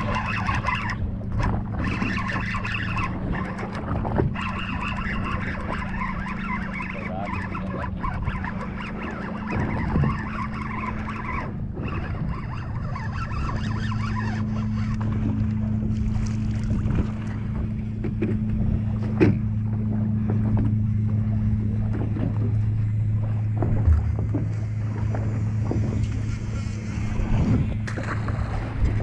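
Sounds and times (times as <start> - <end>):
boat engine humming: 0.0 - 29.0
water noise: 0.0 - 29.0
wind: 0.0 - 29.0.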